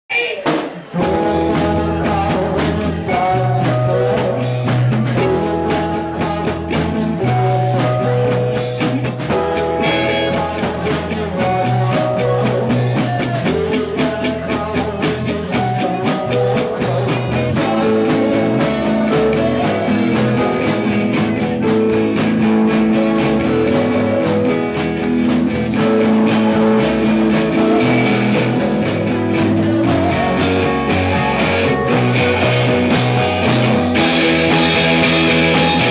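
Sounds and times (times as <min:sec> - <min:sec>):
rock band playing live: 0:00.4 - 0:35.9.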